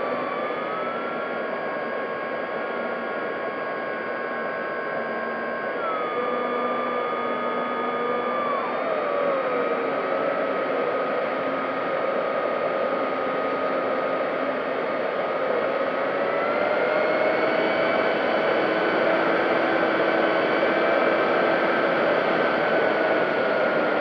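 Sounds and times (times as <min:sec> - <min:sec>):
model plane motor whine: 0:00.0 - 0:24.0.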